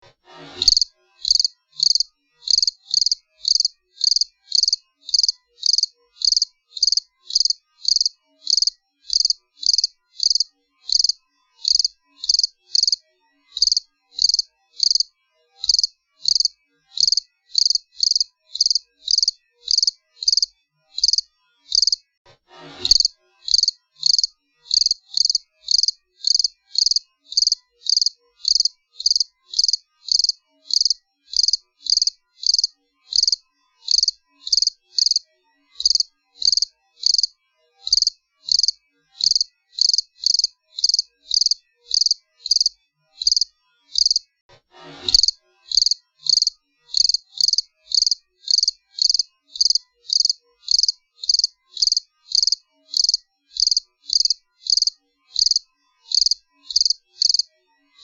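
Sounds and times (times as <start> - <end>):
cricket chirping: 0.6 - 13.0, 13.6 - 22.0, 22.9 - 35.2, 35.8 - 37.3, 37.9 - 44.2, 45.2 - 57.5.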